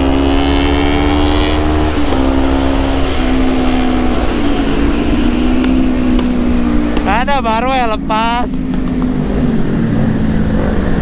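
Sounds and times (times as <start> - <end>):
motorcycle engine cruising: 0.0 - 11.0
wind rushing over microphone: 0.0 - 11.0.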